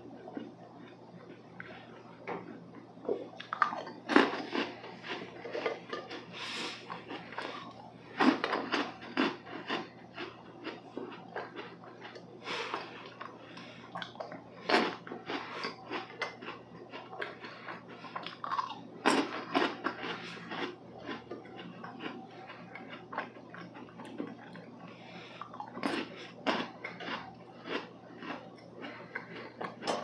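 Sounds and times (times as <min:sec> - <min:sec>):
biting and chewing cookies: 0:00.0 - 0:30.0.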